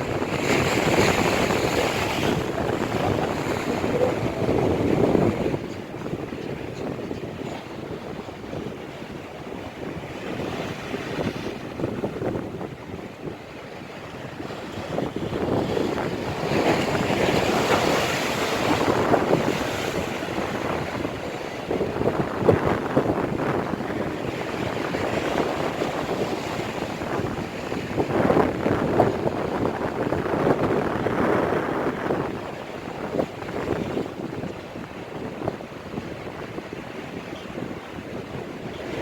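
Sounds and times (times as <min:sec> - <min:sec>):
surf breaking on shore: 0:00.0 - 0:39.0
wind buffeting microphone: 0:00.0 - 0:39.0.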